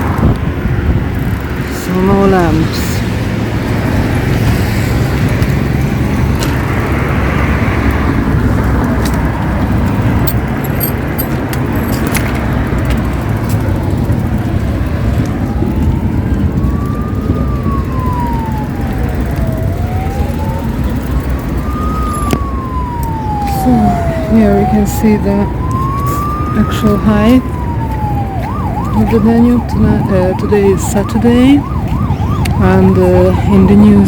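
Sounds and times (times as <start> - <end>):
emergency vehicle siren wailing: 0.0 - 34.0
low rumble of road traffic: 0.0 - 34.0.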